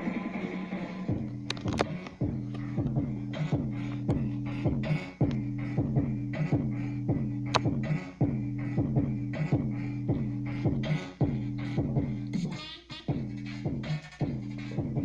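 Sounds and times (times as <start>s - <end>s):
bass-heavy music with beat: 0.0s - 15.0s.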